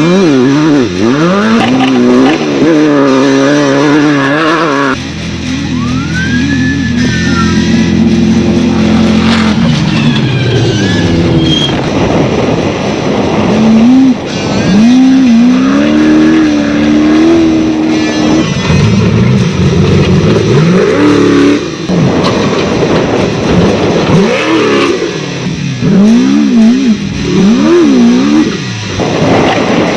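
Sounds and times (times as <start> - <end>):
race car engine accelerating: 0.0 - 29.9
steady rushing noise: 0.0 - 29.9.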